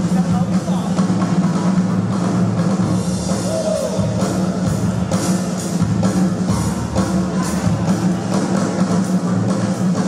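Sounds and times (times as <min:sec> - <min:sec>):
dance music with drum beat: 0:00.0 - 0:10.0.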